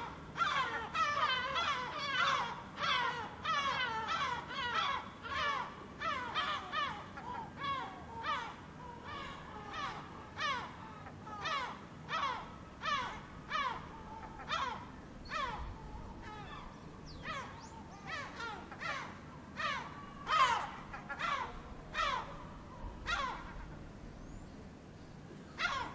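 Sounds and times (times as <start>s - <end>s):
seagulls calling: 0.0s - 24.7s, 25.4s - 25.9s
low background rumble: 0.0s - 25.9s.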